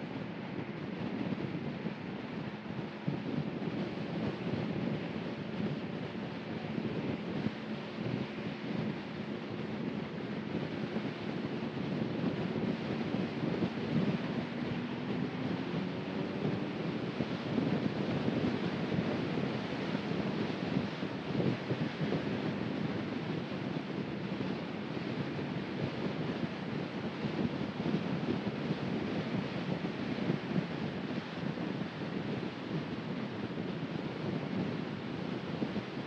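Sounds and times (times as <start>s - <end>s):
car road noise: 0.0s - 36.0s.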